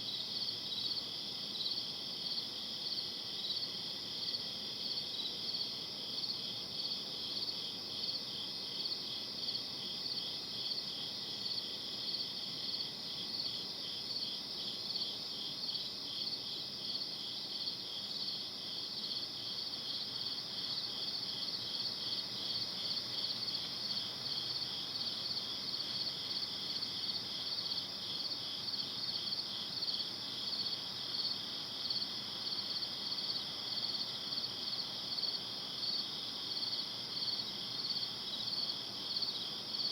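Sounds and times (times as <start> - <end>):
crickets chirping: 0.0 - 39.9
faint background hiss: 0.0 - 39.9.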